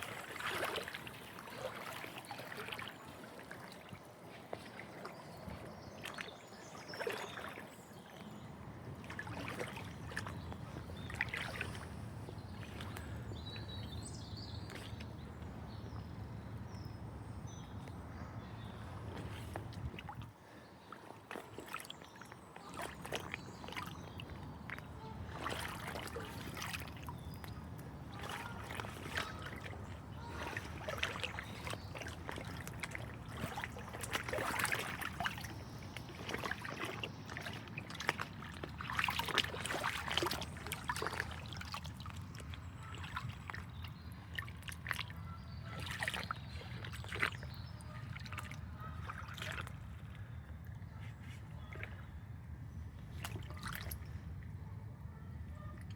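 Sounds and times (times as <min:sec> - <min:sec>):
floodwater sloshing and splashing: 0:00.0 - 0:55.9.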